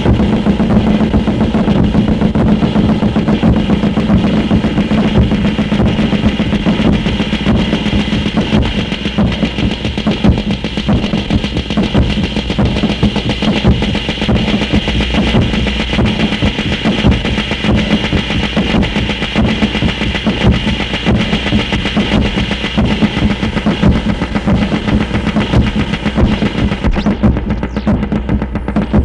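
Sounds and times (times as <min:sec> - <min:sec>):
harsh noise music: 0:00.0 - 0:29.0.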